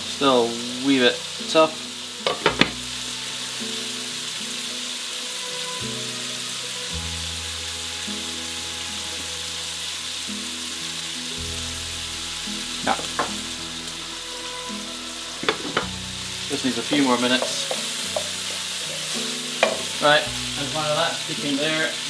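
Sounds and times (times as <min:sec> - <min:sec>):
meat sizzling in a pan: 0:00.0 - 0:22.0.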